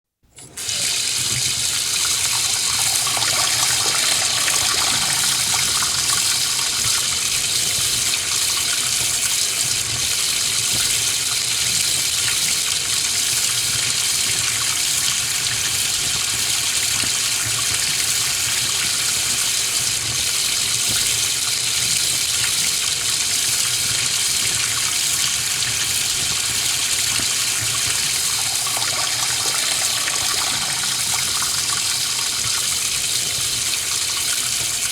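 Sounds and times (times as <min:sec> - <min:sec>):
tap water splashing into sink: 0:00.4 - 0:34.9.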